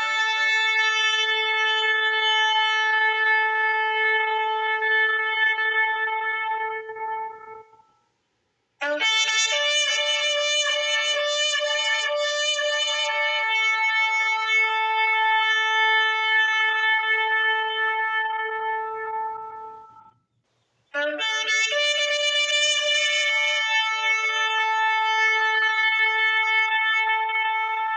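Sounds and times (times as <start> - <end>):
shofar blast: 0.0 - 8.0, 8.8 - 20.1, 21.0 - 27.9.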